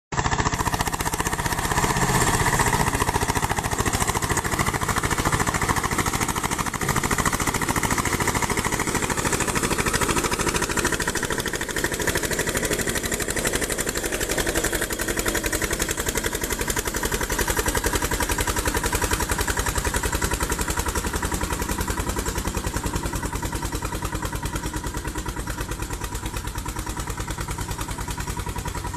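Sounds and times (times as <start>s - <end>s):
tractor diesel engine running: 0.1s - 28.9s.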